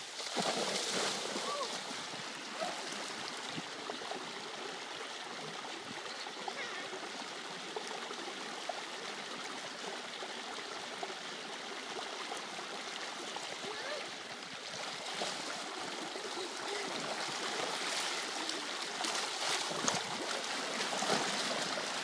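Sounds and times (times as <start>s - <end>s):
creek water running over rock: 0.0s - 22.0s.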